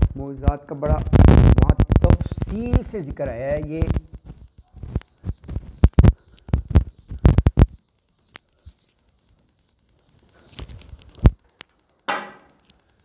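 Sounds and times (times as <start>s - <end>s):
eraser scrubbing a whiteboard: 2.1s - 12.8s.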